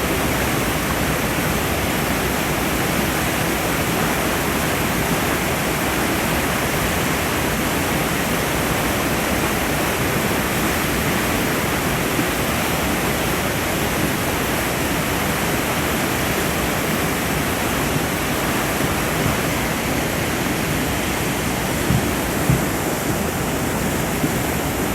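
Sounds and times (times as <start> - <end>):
river rushing: 0.0 - 24.9.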